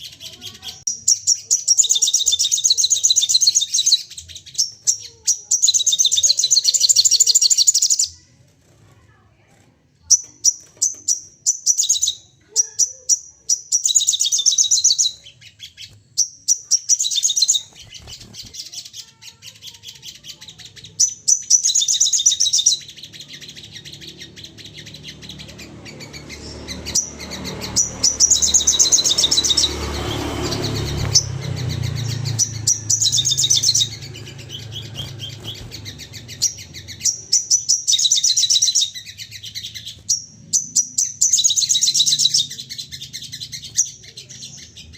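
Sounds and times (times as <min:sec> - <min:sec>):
birds chattering calls: 0:00.0 - 0:44.9.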